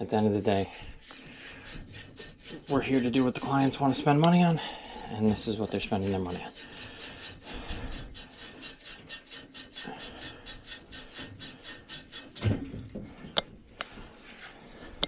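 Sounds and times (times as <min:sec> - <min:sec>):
hand tool scraping on pipe: 0:00.0 - 0:15.0.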